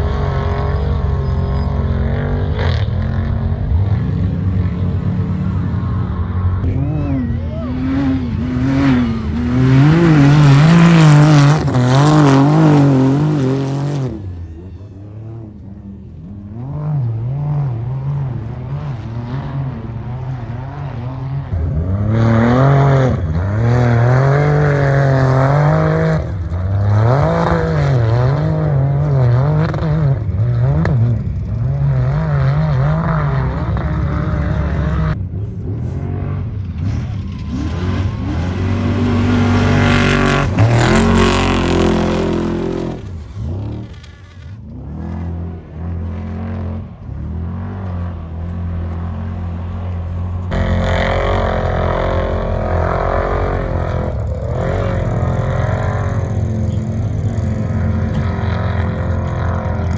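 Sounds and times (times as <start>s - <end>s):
truck engine revving: 0.0s - 19.7s, 20.5s - 59.9s
truck engine passing loudly: 0.0s - 59.9s.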